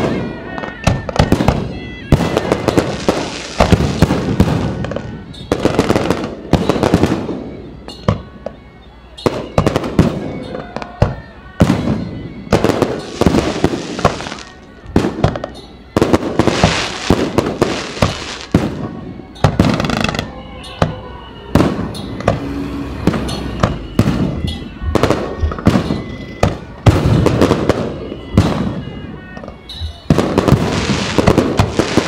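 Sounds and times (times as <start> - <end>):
firework crackling: 0.0 - 8.6, 9.2 - 32.0.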